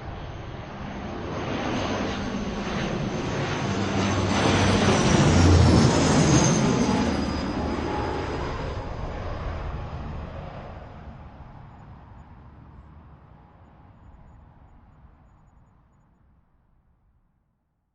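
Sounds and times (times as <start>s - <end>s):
propeller airliner passing: 0.0s - 15.9s.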